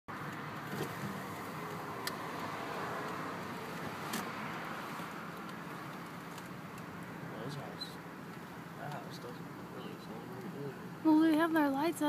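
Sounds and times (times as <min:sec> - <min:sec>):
car road and tyre noise: 0:00.1 - 0:12.0.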